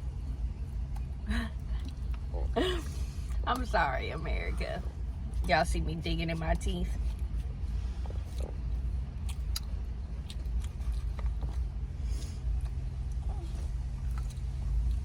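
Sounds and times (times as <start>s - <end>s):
low hum: 0.0s - 15.0s
chewing and mouth clicks: 0.2s - 3.8s, 4.4s - 15.0s.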